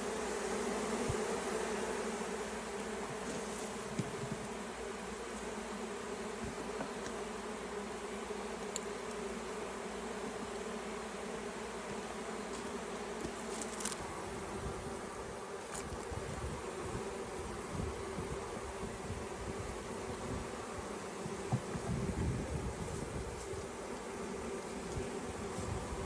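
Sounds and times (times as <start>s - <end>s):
swarm of bees buzzing: 0.0s - 26.0s.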